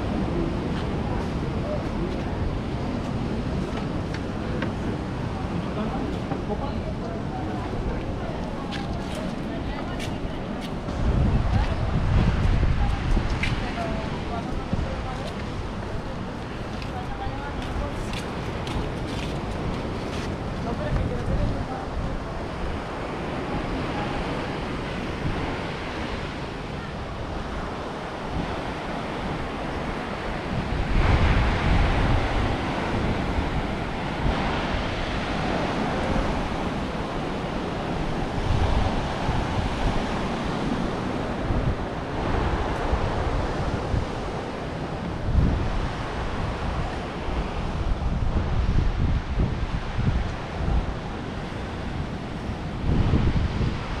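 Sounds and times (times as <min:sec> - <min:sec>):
sea waves breaking on shore: 0:00.0 - 0:54.0
wind buffeting microphone: 0:00.0 - 0:54.0.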